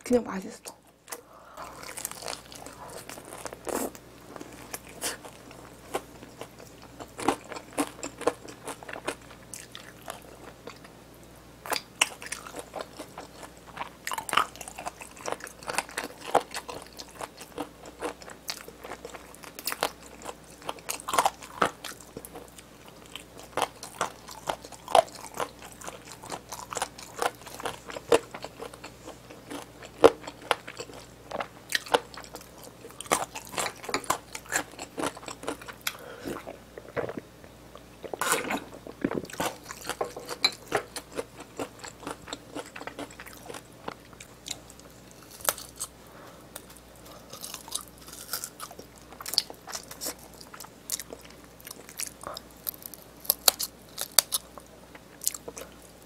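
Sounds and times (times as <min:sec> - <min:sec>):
crunching and chewing fried chicken: 0:00.9 - 0:11.0, 0:11.6 - 0:56.0.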